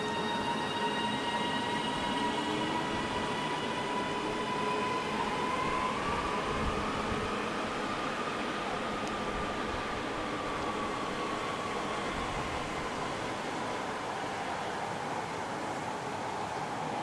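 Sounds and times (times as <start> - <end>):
electric train whine: 0.0 - 17.0
train running noise: 0.0 - 17.0.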